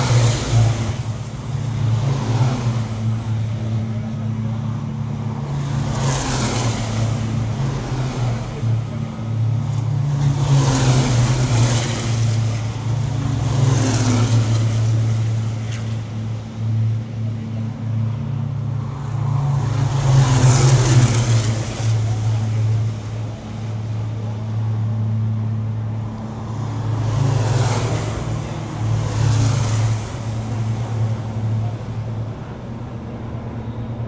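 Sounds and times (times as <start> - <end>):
low engine drone: 0.0 - 34.0
race trucks passing: 0.0 - 34.0.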